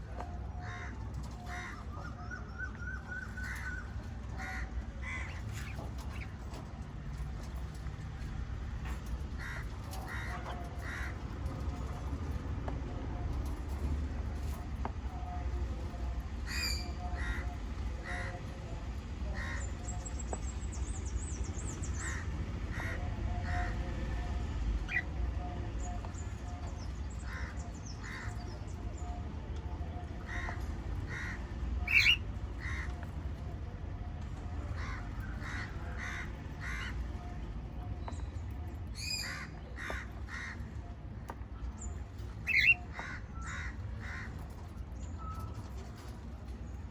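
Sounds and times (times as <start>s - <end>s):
birds chirping: 0.0s - 12.5s, 13.4s - 33.2s, 34.2s - 46.8s.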